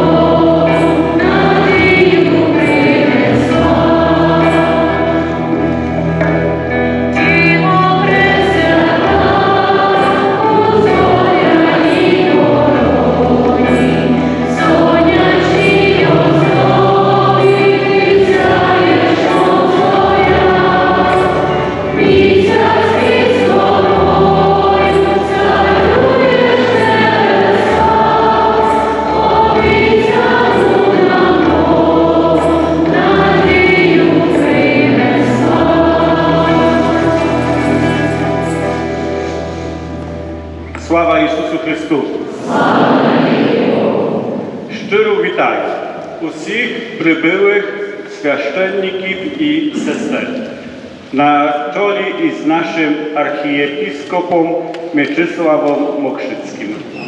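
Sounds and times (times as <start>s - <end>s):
choir singing a hymn: 0.0s - 57.0s
held low accompanying notes: 0.0s - 57.0s.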